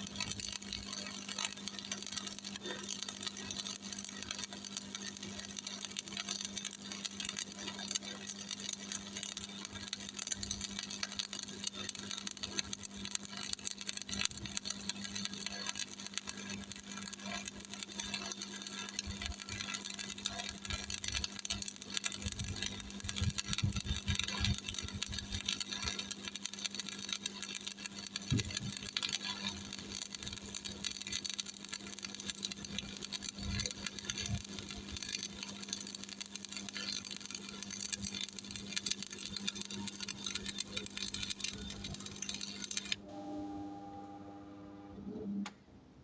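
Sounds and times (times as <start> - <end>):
welding arc crackling: 0.0 - 45.0.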